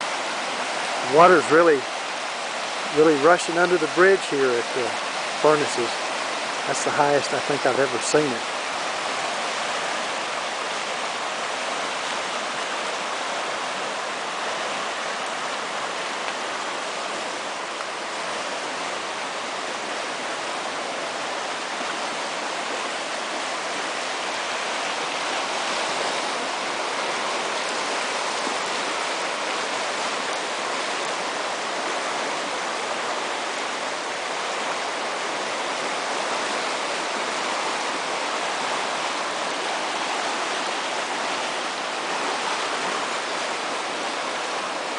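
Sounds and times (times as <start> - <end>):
creek water roaring: 0.0 - 44.9.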